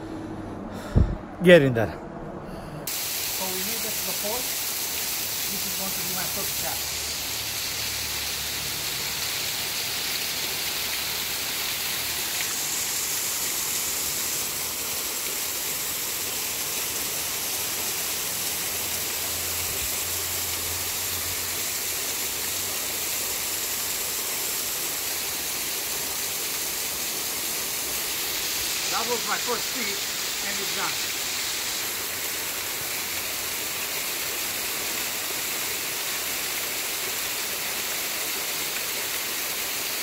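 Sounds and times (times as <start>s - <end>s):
waterfall pouring into pool: 2.9s - 40.0s.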